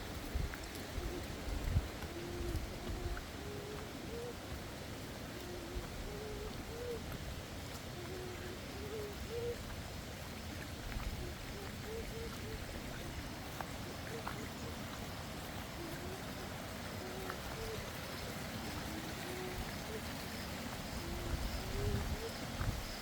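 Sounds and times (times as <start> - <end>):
bird hooting or cooing: 0.4 - 23.0.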